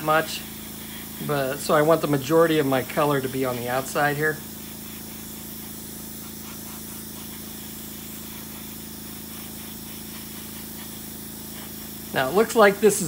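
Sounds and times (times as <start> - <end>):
airbrush hissing: 0.0 - 13.0.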